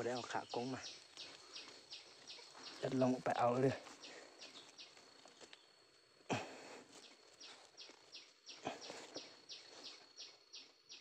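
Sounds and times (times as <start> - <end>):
small bird calling: 0.0 - 5.7, 6.3 - 11.0.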